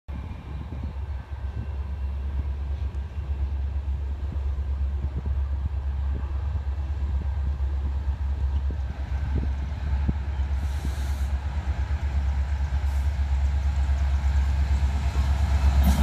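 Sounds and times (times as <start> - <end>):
distant diesel freight train rumble: 0.1 - 16.0.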